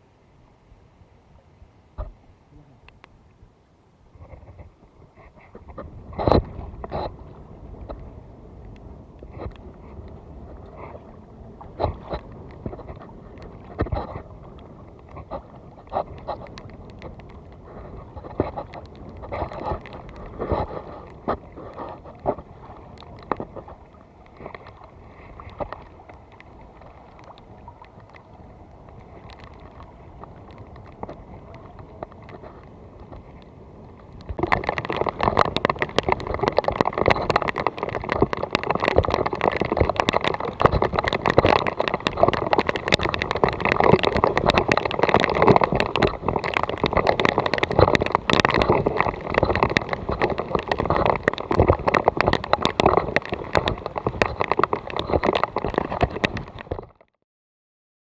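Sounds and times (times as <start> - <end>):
small crackles: 2.0 - 3.4, 4.0 - 57.2
shallow seawater sloshing: 4.1 - 57.0.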